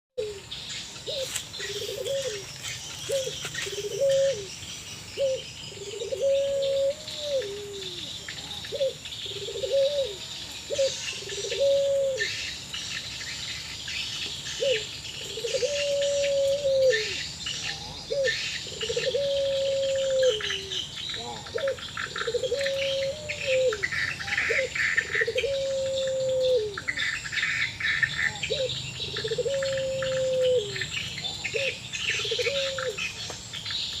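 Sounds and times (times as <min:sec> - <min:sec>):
doves cooing: 0:00.2 - 0:12.7, 0:14.4 - 0:33.2
high chirping of small birds or insects: 0:00.2 - 0:34.0.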